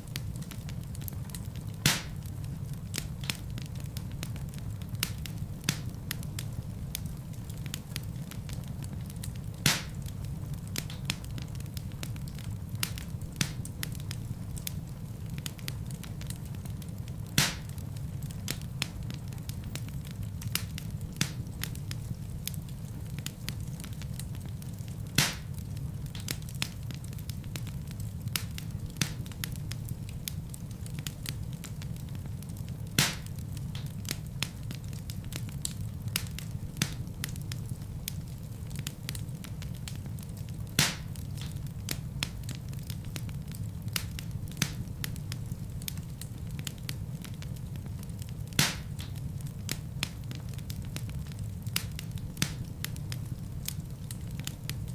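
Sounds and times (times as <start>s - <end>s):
fire crackling and rumbling: 0.0s - 54.9s
wood fire sharp pops: 0.0s - 54.9s.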